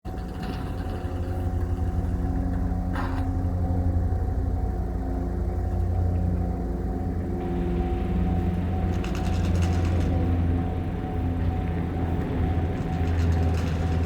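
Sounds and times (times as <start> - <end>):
diesel locomotive engine rumbling: 0.1 - 14.0.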